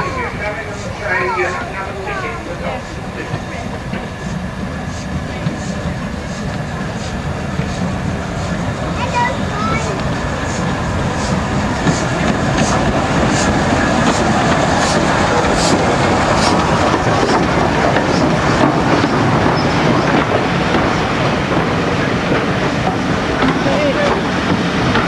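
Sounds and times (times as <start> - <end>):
train rumbling: 0.0 - 25.0
wheels clicking over rail joints: 1.5 - 25.0.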